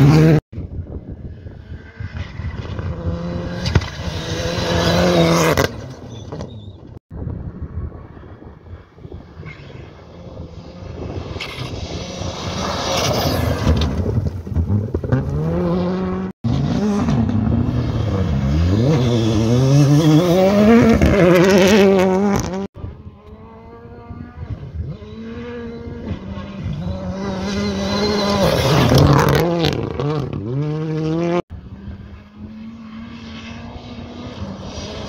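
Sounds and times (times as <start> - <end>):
rally car engines revving: 1.2 - 6.6, 9.3 - 35.0.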